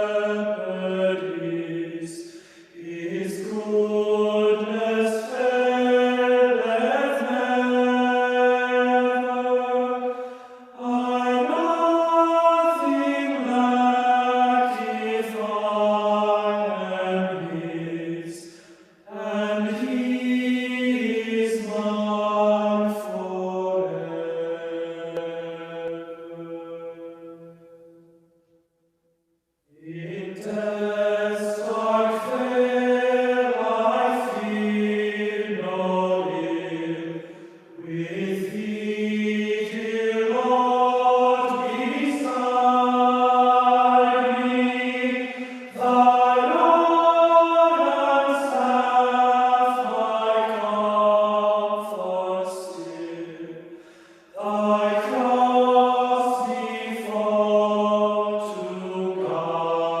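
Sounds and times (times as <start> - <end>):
chant-like singing: 0.0 - 28.1, 29.7 - 60.0.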